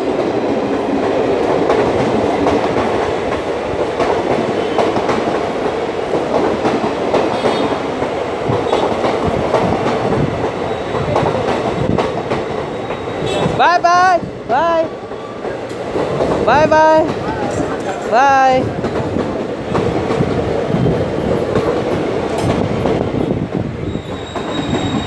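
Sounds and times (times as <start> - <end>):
wheels clacking over rail joints: 0.0 - 13.6, 14.4 - 23.0
train wheels rushing on rails: 0.0 - 25.0.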